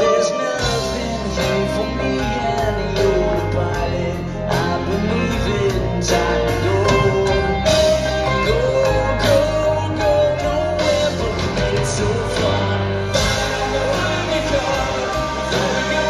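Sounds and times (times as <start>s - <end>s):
drums with steady beat: 0.0s - 16.0s
electric guitars: 0.0s - 16.0s
man singing: 0.0s - 16.0s
piano: 0.0s - 16.0s.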